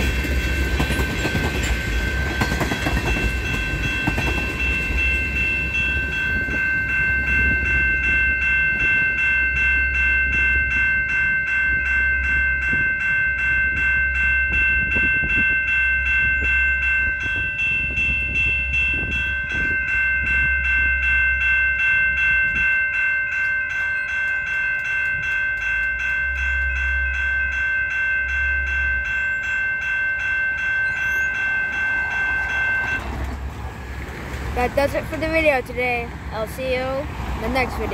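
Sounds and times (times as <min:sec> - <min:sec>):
crossing bell ringing: 0:00.0 - 0:37.9
freight train rumbling past: 0:00.0 - 0:37.9.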